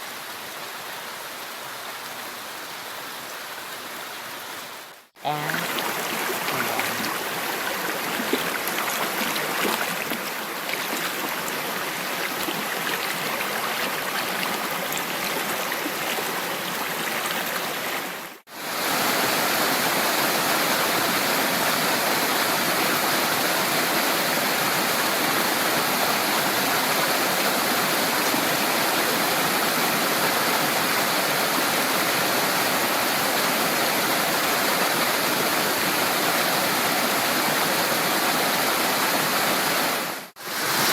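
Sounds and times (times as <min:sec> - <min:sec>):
stream running water: 0:00.0 - 0:40.9.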